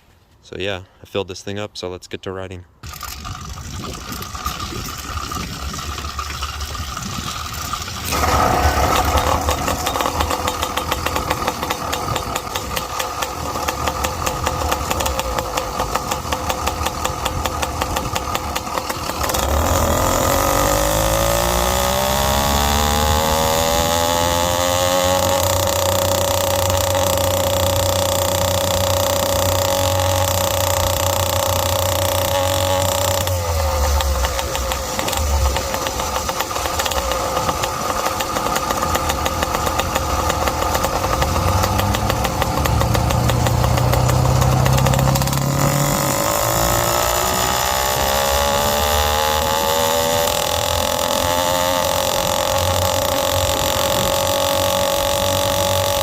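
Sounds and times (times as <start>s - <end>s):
two-stroke engine revving: 2.8s - 56.0s.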